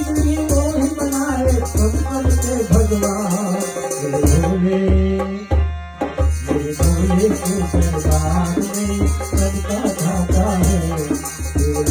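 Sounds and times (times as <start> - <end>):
deep percussion beat: 0.0 - 11.9
devotional instrumental music: 0.0 - 11.9.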